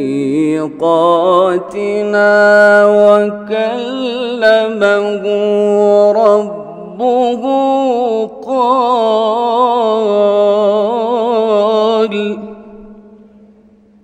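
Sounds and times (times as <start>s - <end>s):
man reciting melodically: 0.0s - 12.8s.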